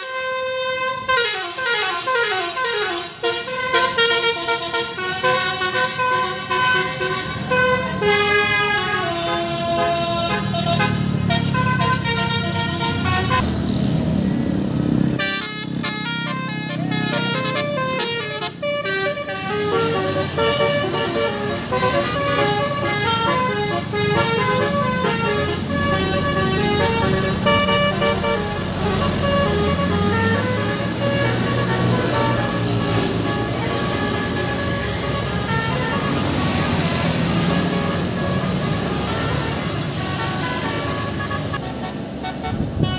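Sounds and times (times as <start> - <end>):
bus horn playing a melody: 0.0 - 13.5, 15.1 - 42.9
bus engine running: 0.0 - 42.9.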